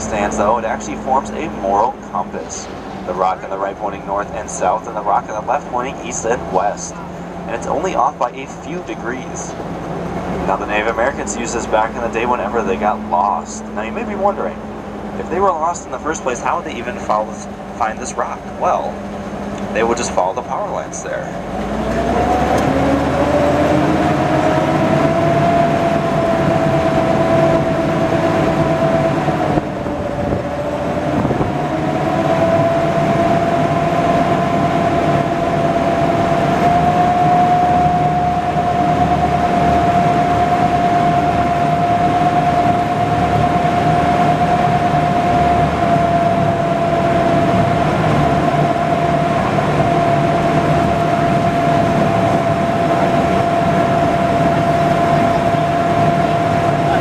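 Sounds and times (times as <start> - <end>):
boat engine whining and droning: 0.0 - 57.0.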